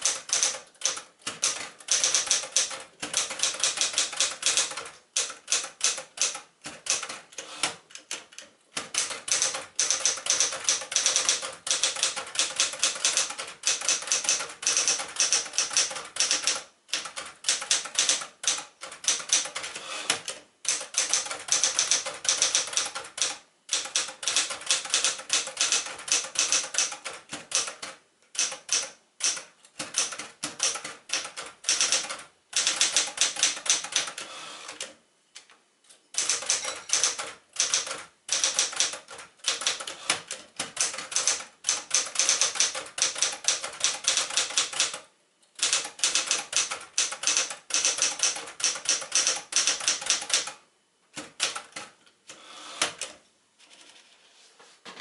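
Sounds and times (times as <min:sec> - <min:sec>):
manual typewriter typing: 0:00.0 - 0:35.0, 0:36.1 - 0:50.6, 0:51.2 - 0:52.0.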